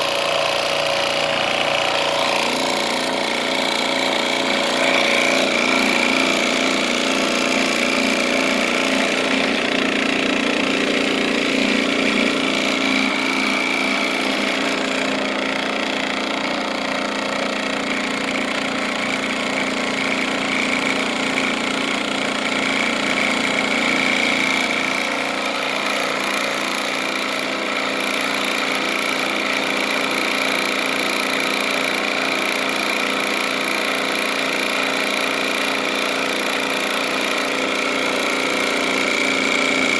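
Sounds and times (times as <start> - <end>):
vibrating screen buzz and rattle: 0.0 - 39.9.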